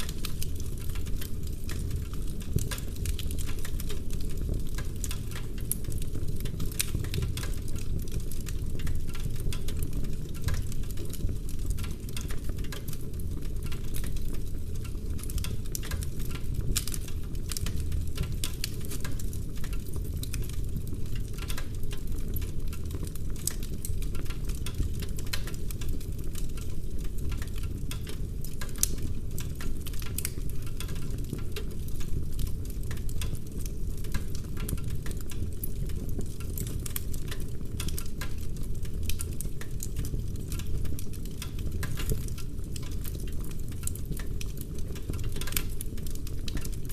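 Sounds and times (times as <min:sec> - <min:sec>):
fire flames rumbling: 0:00.0 - 0:46.9
logs crackling and popping: 0:00.0 - 0:46.9.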